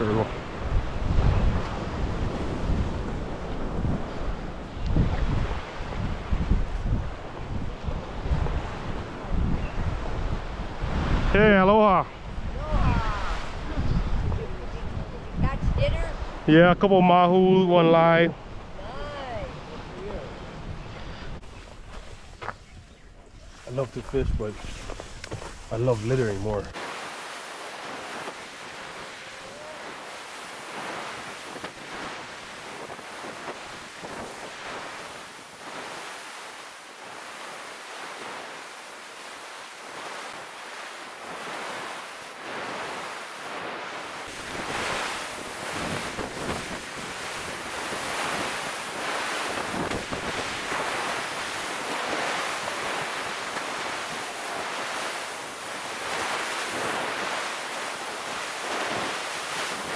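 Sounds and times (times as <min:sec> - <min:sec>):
wind buffeting microphone: 0:00.0 - 0:16.8, 0:18.3 - 0:27.0, 0:27.6 - 0:39.3, 0:39.9 - 0:59.9
ocean surf on beach: 0:00.0 - 0:59.9.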